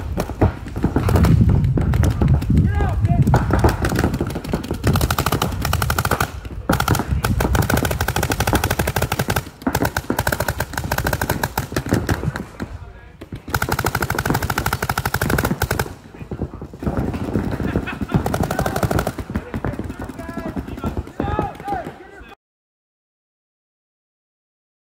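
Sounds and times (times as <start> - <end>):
paintball gun firing: 0.0 - 22.2.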